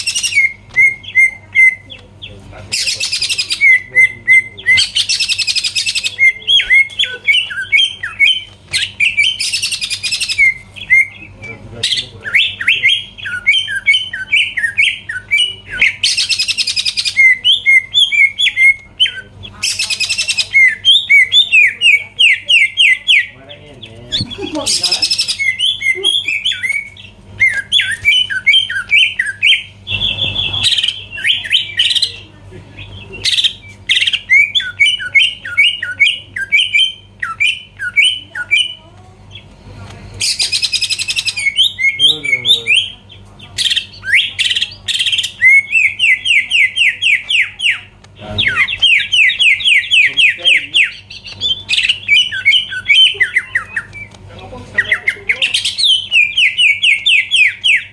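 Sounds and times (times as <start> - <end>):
bird singing rapid notes: 0.0 - 39.5, 40.2 - 57.9
harsh rasping bird calls: 0.0 - 57.9.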